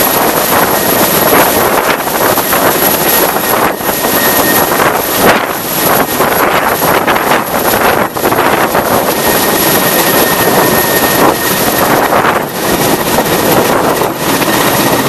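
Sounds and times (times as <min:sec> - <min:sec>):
helicopter hovering: 0:00.0 - 0:15.0.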